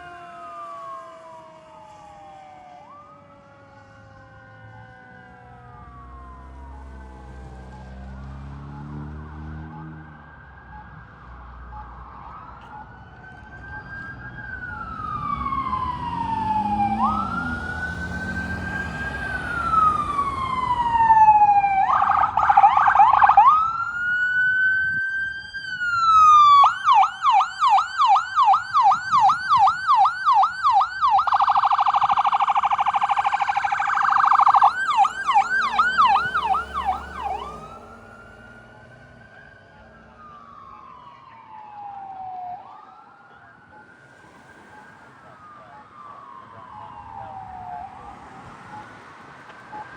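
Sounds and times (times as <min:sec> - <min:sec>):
fire engine siren wailing and yelping: 0:00.0 - 0:49.9.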